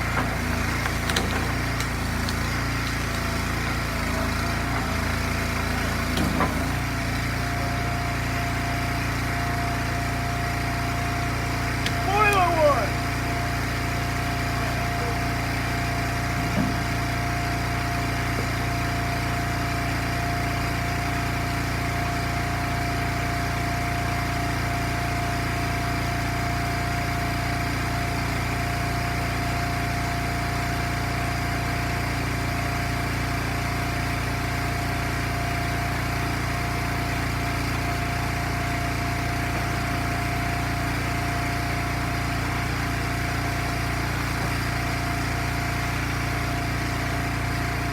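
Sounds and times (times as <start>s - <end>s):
small gas engine running: 0.0s - 47.9s.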